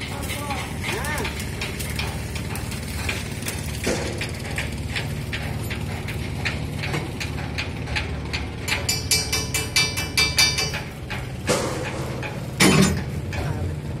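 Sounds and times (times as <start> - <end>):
metallic clicks and knocks: 0.0 - 13.6
low machinery drone: 0.0 - 14.0.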